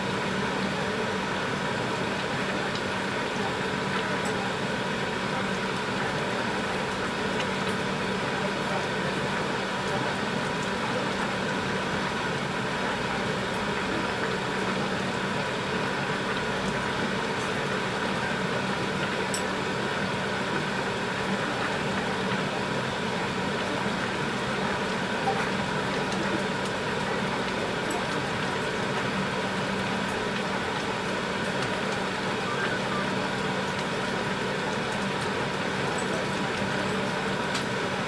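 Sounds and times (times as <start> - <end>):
stove hum and hiss: 0.0 - 38.0.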